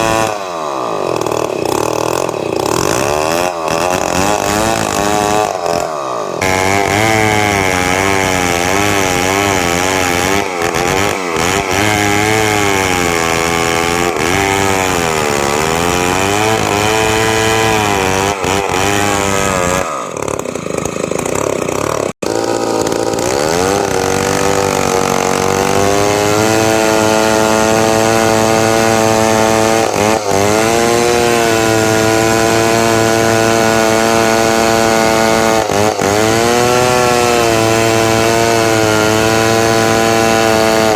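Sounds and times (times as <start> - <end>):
chainsaw cutting timber: 0.0 - 40.9.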